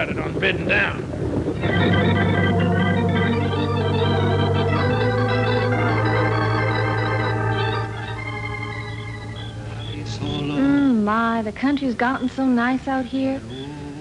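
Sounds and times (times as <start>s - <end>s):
organ chords: 1.2s - 12.5s.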